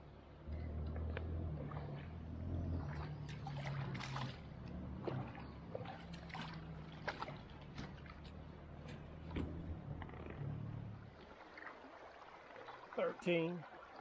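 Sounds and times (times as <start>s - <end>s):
water splashing around a kayak: 0.0s - 14.0s.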